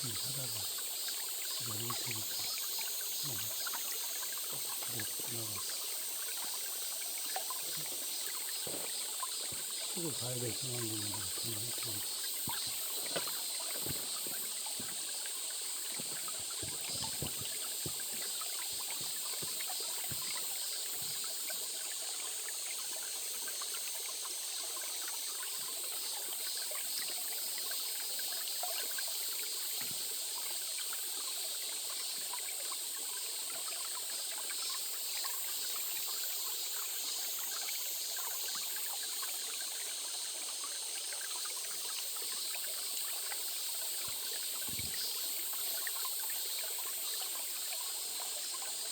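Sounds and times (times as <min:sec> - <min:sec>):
stream water babbling over rocks: 0:00.0 - 0:48.9.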